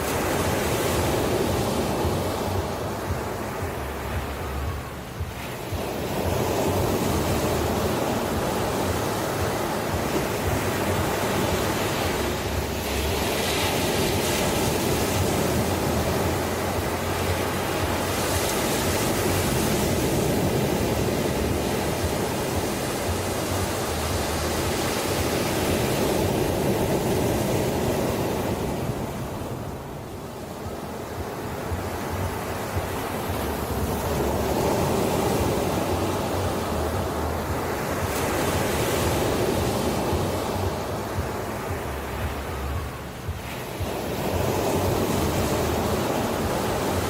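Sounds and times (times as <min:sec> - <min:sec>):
waves washing in: 0:00.0 - 0:47.0.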